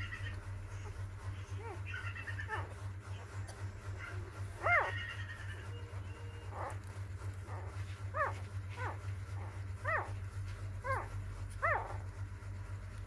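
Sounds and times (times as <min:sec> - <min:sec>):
newborn puppies whimpering: 0:00.0 - 0:10.2, 0:10.8 - 0:12.1.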